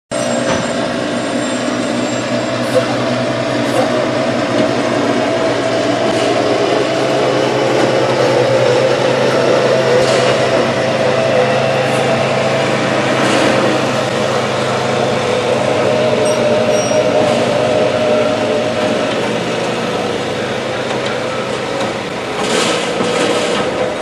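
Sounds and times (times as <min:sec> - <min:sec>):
garbage truck diesel engine running: 0:00.1 - 0:24.0
hydraulic arm whine: 0:00.2 - 0:24.0.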